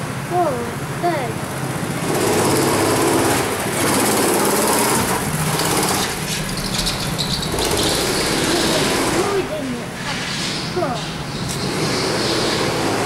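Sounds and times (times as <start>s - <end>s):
go-kart engines driving past: 0.1s - 13.0s.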